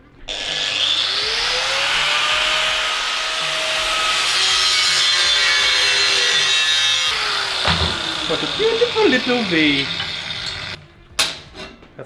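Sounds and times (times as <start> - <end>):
angle grinder cutting steel: 0.3 - 10.8.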